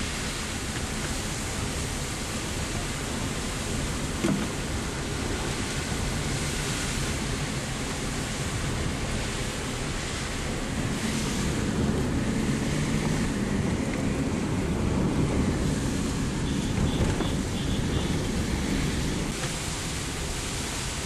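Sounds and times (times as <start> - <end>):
car driving on wet road: 0.0 - 21.0.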